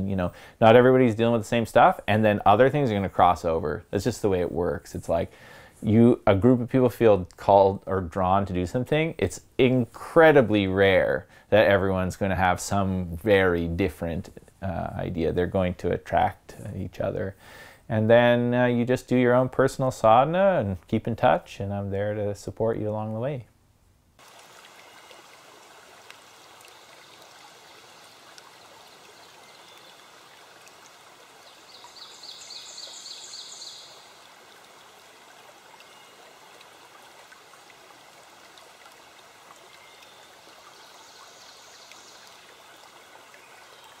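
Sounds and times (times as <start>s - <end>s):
stream of running water: 0.0s - 16.0s, 24.2s - 44.0s.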